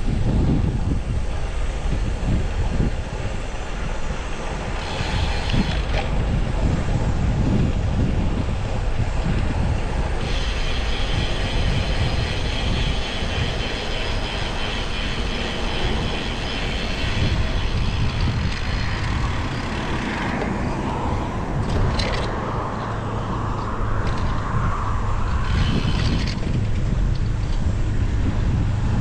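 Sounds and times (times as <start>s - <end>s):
road rolling noise: 0.0s - 29.0s
wind buffeting microphone: 0.0s - 29.0s.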